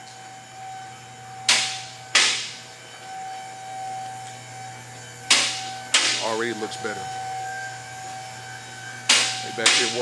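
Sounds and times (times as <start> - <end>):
steady workshop hum: 0.0 - 10.0.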